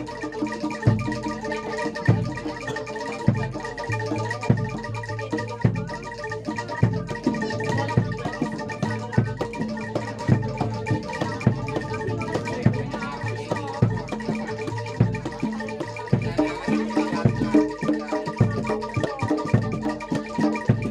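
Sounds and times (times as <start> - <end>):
low hand-drum strokes: 0.0 - 20.9
metallophones ringing: 0.0 - 20.9
rattling percussion: 0.0 - 20.9.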